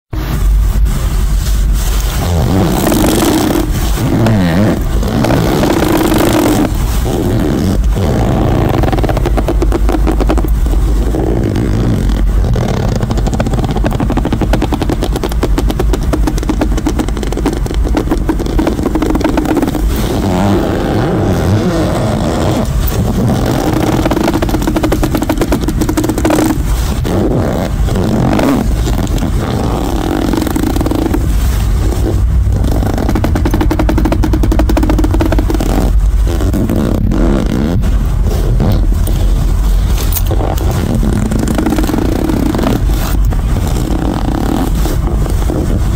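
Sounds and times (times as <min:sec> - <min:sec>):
hand fart noise: 0:02.0 - 0:45.9.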